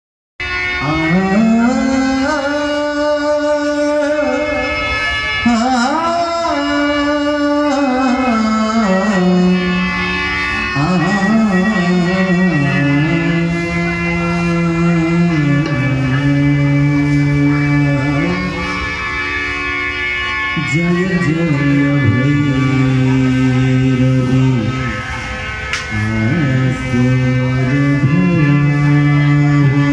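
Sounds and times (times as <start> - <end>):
harmonium: 0.4 - 29.9
man singing devotional song: 0.5 - 19.1, 20.4 - 25.1, 25.8 - 29.9.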